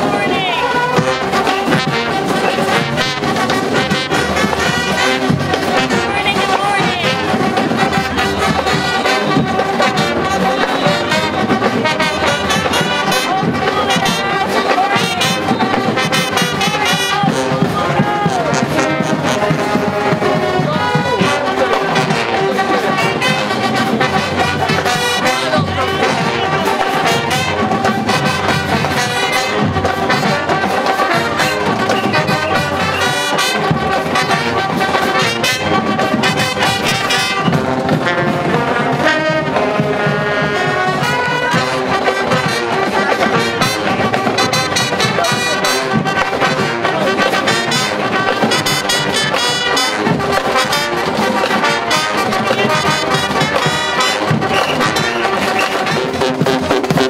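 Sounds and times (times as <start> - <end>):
marching band brass playing: 0.0 - 57.0.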